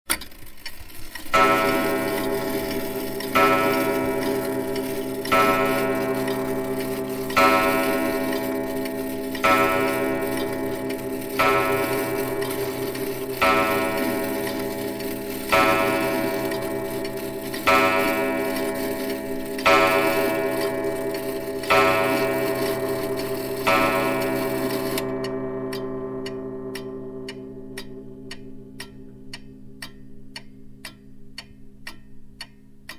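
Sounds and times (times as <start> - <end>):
clock bell striking: 1.2 - 31.9.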